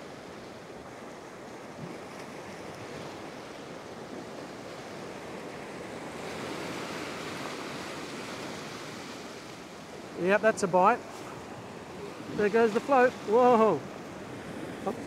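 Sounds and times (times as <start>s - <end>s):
ocean waves washing on rocks: 0.0s - 15.0s.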